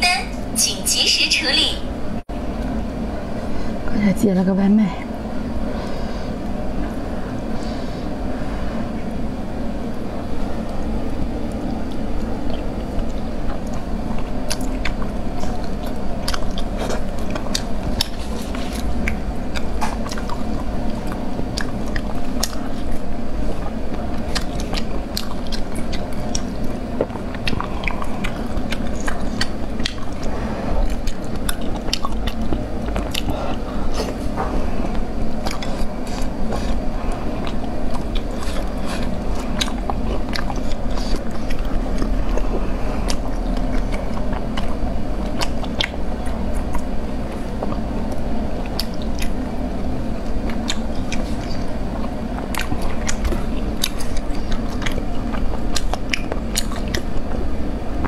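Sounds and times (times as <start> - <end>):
steady low hum: 0.0 - 58.0
biting and chewing food: 5.6 - 58.0.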